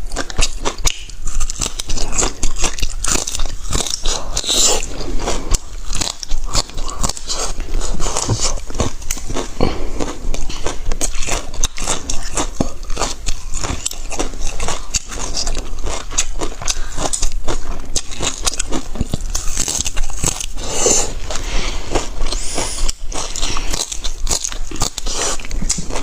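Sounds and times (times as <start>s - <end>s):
person biting and chewing: 0.0s - 26.0s.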